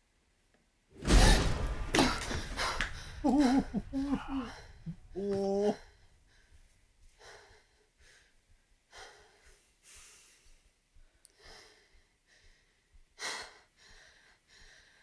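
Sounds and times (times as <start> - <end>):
soft slow breathing: 2.4 - 15.0.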